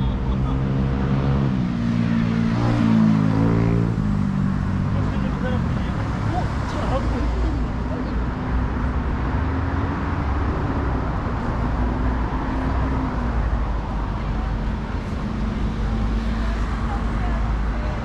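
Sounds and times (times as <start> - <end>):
passing cars and buses rumbling: 0.0 - 18.0.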